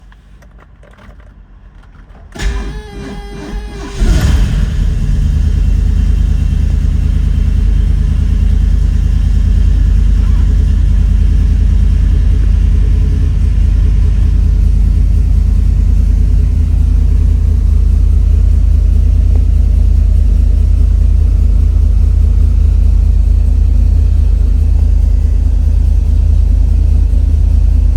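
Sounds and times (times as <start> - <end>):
engine starting and idling: 0.1 - 27.9
car starter motor: 1.9 - 27.9.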